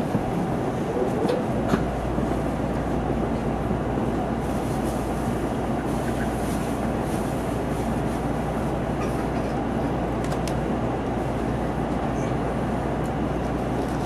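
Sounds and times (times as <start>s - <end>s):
train running heard from inside: 0.0s - 14.0s.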